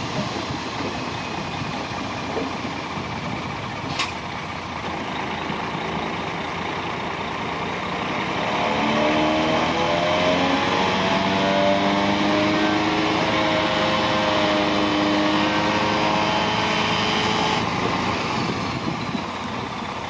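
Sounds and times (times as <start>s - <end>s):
heavy diesel engine revving: 0.0s - 20.0s.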